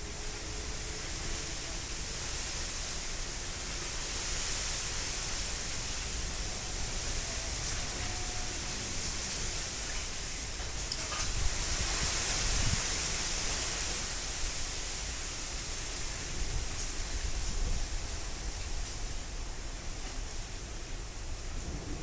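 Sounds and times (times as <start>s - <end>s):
gusting wind: 0.0s - 22.0s
heavy rain pouring: 0.0s - 22.0s.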